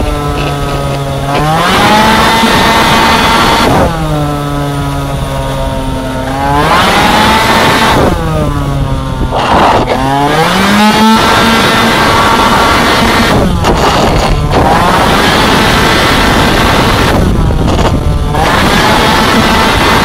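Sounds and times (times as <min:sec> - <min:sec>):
two-stroke scooter engine revving: 0:00.0 - 0:20.0.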